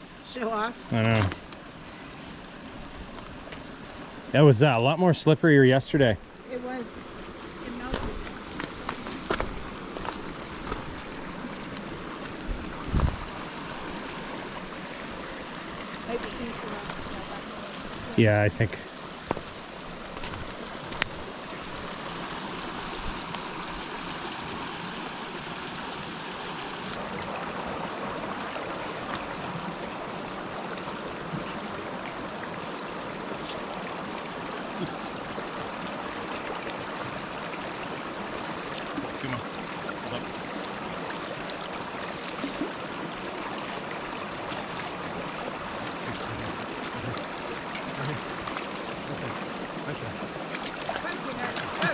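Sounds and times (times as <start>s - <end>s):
flowing water: 0.0s - 51.9s.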